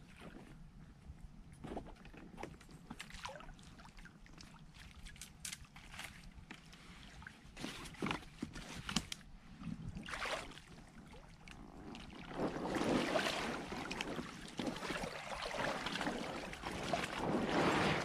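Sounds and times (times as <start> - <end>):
water sloshing and splashing: 1.7 - 18.0.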